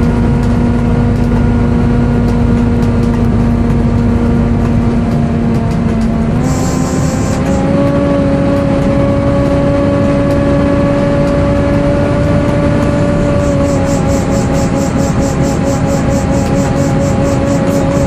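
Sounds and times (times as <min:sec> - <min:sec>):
bus engine: 0:00.0 - 0:18.0
cooling fan whining: 0:00.0 - 0:18.0.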